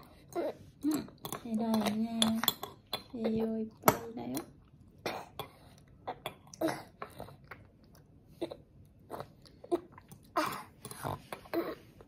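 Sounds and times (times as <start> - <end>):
toddler chewing food: 0.0 - 12.0.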